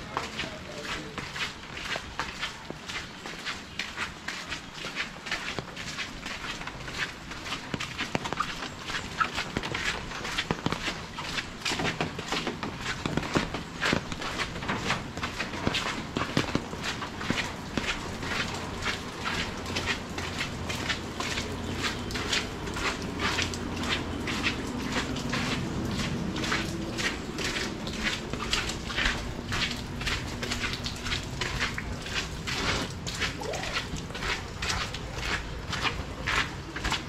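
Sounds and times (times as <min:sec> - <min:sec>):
footsteps walking: 0:00.0 - 0:37.0.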